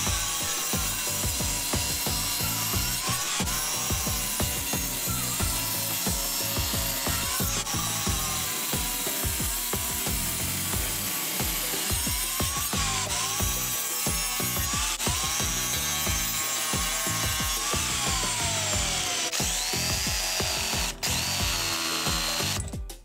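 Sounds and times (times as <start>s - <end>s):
miter saw cutting wood: 0.0s - 22.7s
background music: 0.0s - 23.0s.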